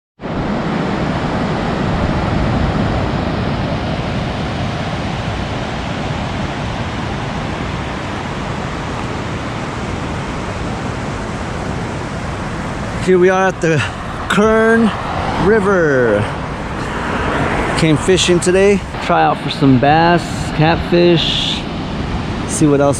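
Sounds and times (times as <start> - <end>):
river water rushing: 0.4 - 22.8.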